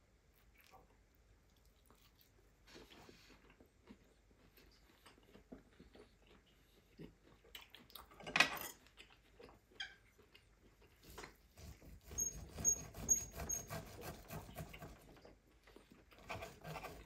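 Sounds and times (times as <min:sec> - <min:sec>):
man chewing with wet mouth sounds: 0:00.0 - 0:11.8, 0:14.7 - 0:17.0.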